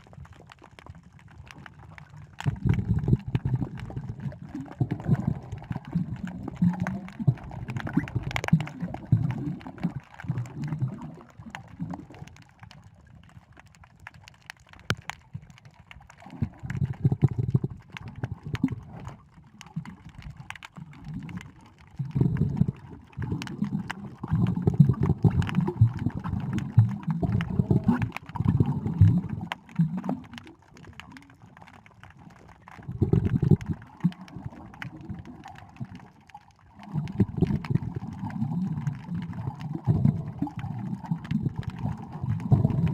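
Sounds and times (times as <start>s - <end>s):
small clicks: 0.0s - 42.9s
water gurgling underwater: 0.0s - 42.9s.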